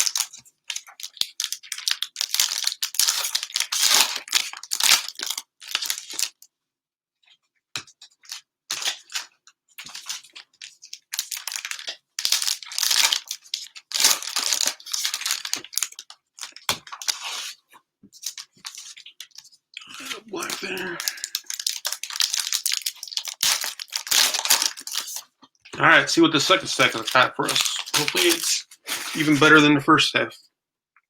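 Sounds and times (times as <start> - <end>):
plastic wrappers tearing and crinkling: 0.0 - 6.4, 8.2 - 17.6, 18.2 - 25.4, 26.4 - 29.6.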